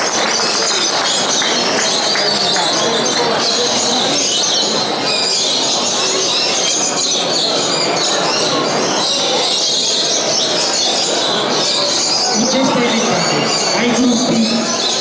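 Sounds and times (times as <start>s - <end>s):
faint crowd chatter: 0.0s - 15.0s
many birds chirping and singing: 0.0s - 15.0s.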